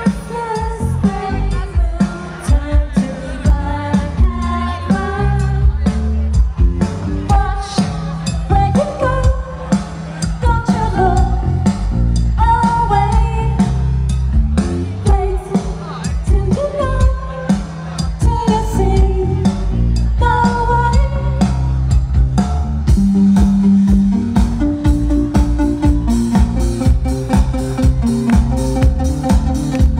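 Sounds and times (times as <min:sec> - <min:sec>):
bass: 0:00.0 - 0:29.9
drums: 0:00.0 - 0:29.9.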